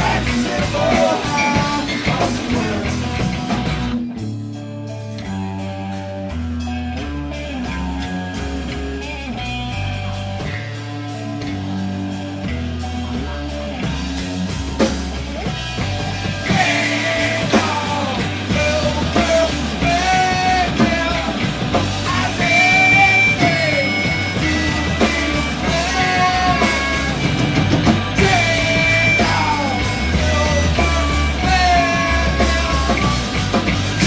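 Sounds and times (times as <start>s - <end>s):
drums: 0.0s - 34.0s
rock band playing live: 0.0s - 34.0s.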